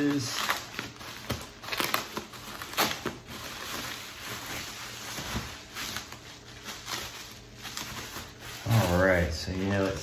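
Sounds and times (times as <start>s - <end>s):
bubble wrap crinkling and rustling: 0.0s - 10.0s.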